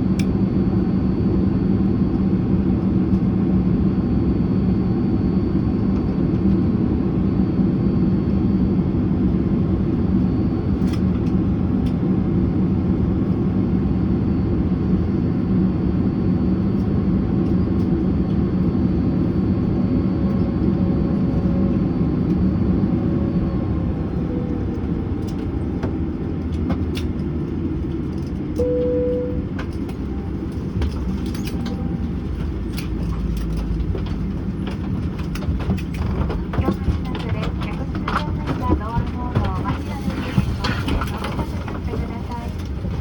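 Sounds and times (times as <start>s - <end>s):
aircraft cabin rumble: 0.0s - 43.0s
jet engine whine: 0.0s - 43.0s.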